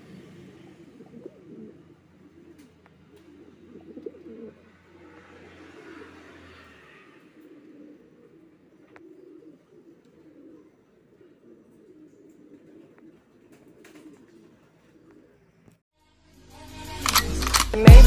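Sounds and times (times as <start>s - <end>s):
pigeons cooing softly: 0.0s - 15.8s.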